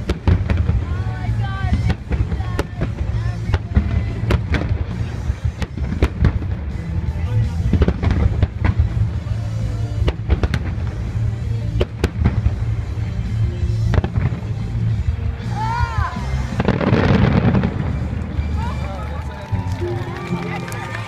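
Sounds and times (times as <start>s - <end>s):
fireworks bursting with crackle: 0.0s - 15.4s, 16.2s - 19.0s
music playing: 0.0s - 21.0s.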